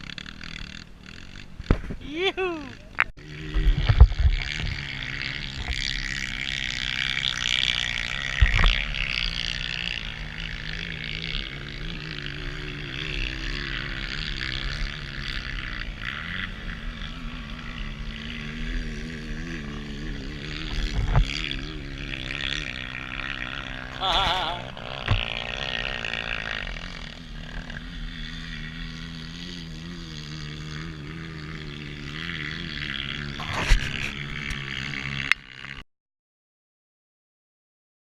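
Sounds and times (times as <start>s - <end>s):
motorcycle engines droning: 0.0s - 35.8s.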